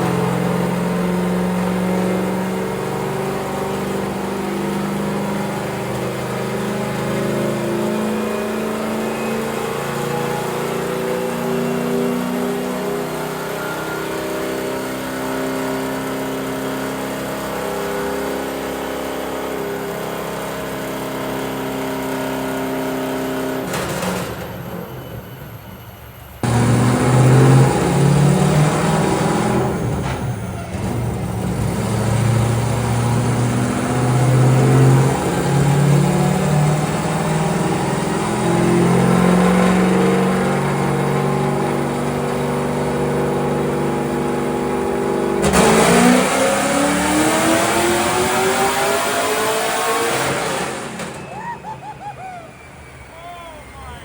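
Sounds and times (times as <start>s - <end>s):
car engine revving: 0.0s - 25.4s, 26.4s - 54.0s.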